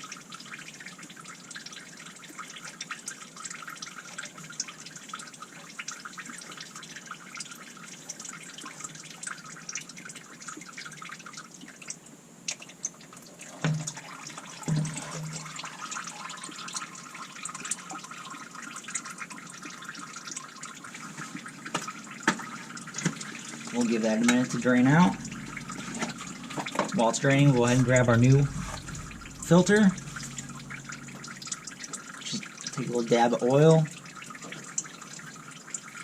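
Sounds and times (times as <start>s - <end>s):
oil trickling into a pan: 0.0s - 36.0s.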